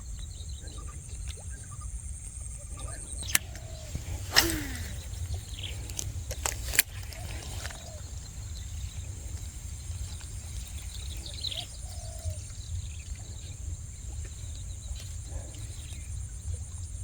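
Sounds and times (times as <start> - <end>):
bird chirps: 0.0 - 16.3.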